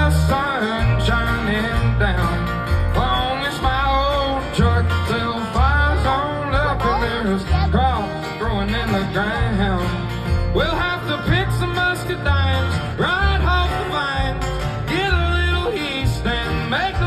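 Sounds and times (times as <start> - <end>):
person singing: 0.0 - 17.0
plucked guitar: 0.0 - 17.0
repeating bass line: 0.0 - 17.0.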